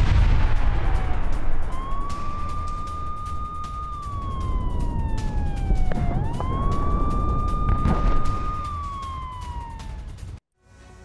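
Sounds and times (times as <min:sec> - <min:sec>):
low rumble: 0:00.0 - 0:09.4
air-raid siren wailing: 0:01.0 - 0:10.4.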